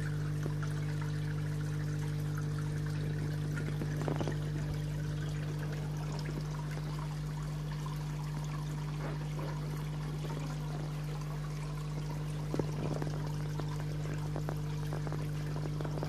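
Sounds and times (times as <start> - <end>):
steady low hum: 0.0 - 16.0
water splashing into a pond: 0.0 - 16.0.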